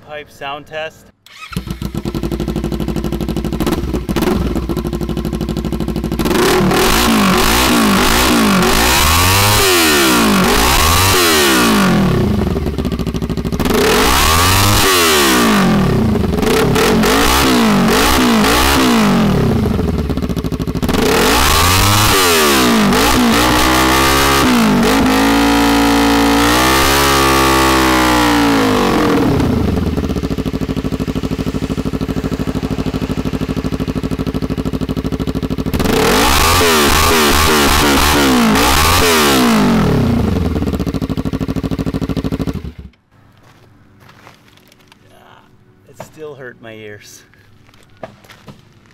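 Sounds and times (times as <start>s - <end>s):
motorcycle engine revving: 1.2s - 43.0s.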